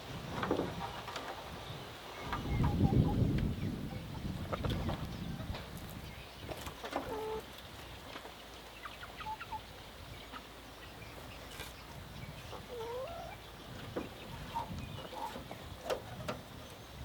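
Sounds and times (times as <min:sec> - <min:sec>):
chickens clucking: 0:00.3 - 0:17.0.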